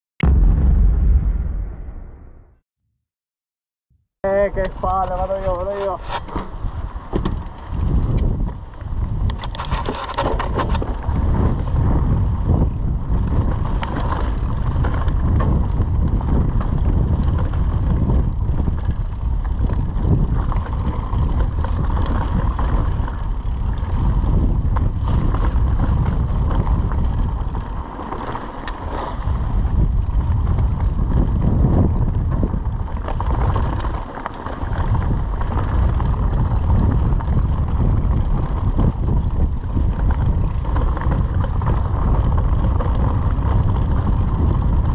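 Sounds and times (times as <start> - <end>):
bike tyres rumbling on stones: 4.3 - 44.9
wind buffeting microphone: 4.4 - 28.2, 28.8 - 44.9.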